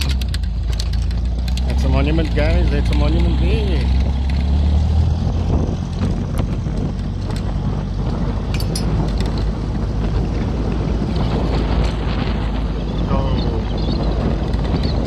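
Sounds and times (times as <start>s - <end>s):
buggy engine rumbling: 0.0s - 15.0s
wind buffeting microphone: 0.0s - 15.0s.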